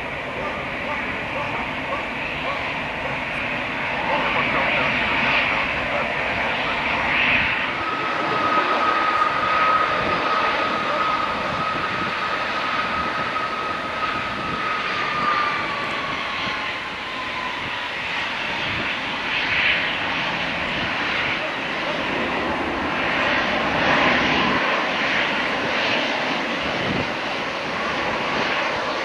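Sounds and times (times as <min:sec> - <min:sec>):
jet engines at taxi power: 0:00.0 - 0:29.0.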